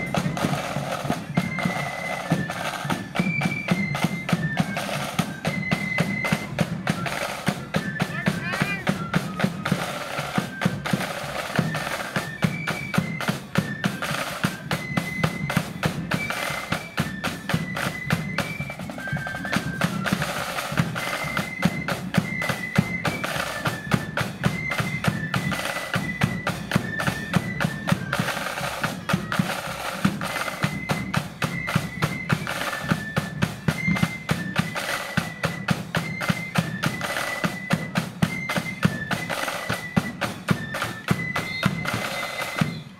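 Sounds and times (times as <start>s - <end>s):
flutes playing high melody: 0.0s - 42.9s
rapid snare drumming: 0.0s - 42.9s.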